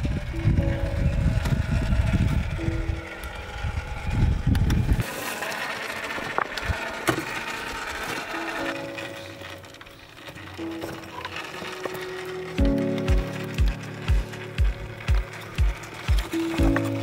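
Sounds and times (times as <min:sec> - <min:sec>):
toy car motor rumble: 0:00.0 - 0:17.0.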